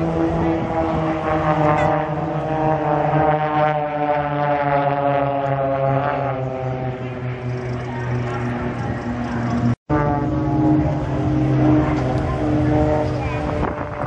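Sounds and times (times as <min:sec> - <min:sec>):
propeller aircraft droning past: 0:00.0 - 0:14.0.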